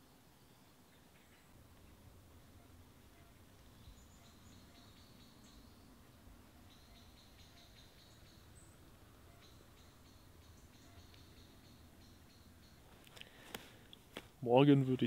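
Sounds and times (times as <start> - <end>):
faint high-pitched chirping: 0.0 - 13.0.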